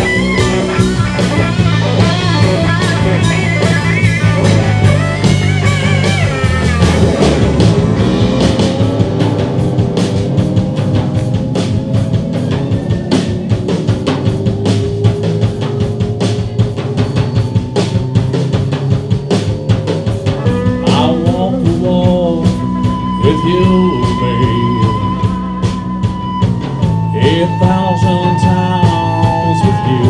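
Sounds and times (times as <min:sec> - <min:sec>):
bending lead guitar notes: 0:00.0 - 0:30.0
drum kit beat: 0:00.0 - 0:30.0
rock band playing: 0:00.0 - 0:30.0.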